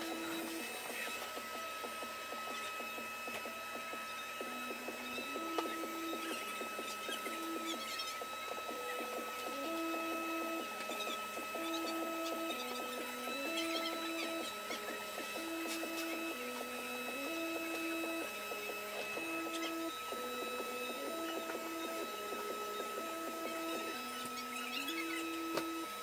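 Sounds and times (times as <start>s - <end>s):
shop vacuum motor whine: 0.0s - 26.0s.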